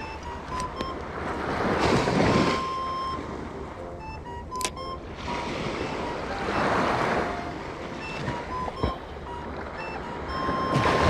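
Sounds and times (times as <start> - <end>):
surf waves breaking: 0.0 - 11.0.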